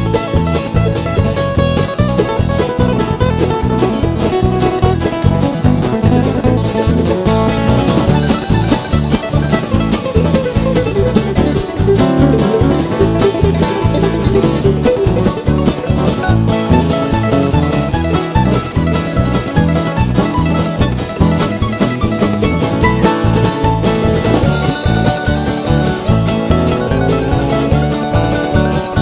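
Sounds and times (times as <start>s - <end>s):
banjo picking: 0.0s - 29.0s
guitar picking: 0.0s - 29.0s
steady bass beat: 0.0s - 29.0s.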